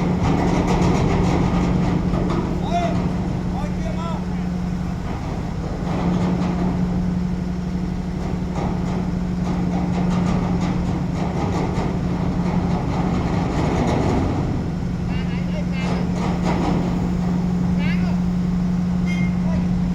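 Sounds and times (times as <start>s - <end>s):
diesel truck engine idling: 0.0s - 19.9s.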